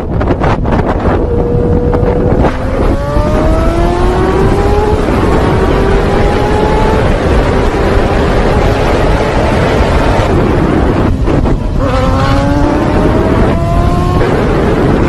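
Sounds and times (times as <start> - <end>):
motorcycle engine accelerating: 0.0 - 15.0
wind noise on microphone: 0.0 - 15.0.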